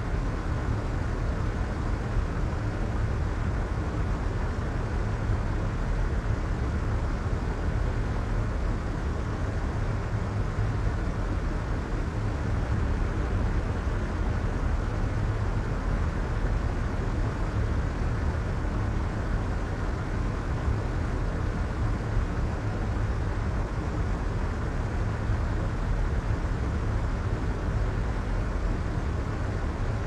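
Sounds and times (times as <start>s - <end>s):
soft low white noise: 0.0s - 30.0s.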